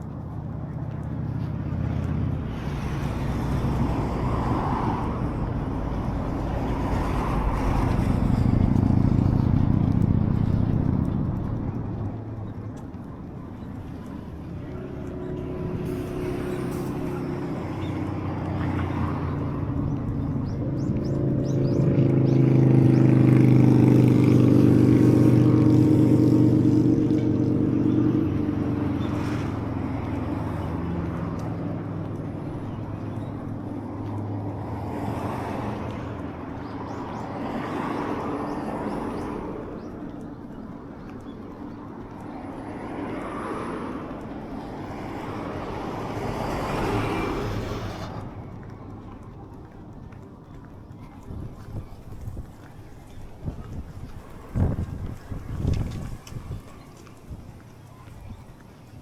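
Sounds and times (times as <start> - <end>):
vehicle engine droning: 0.0 - 59.0
vehicles passing: 0.0 - 59.0.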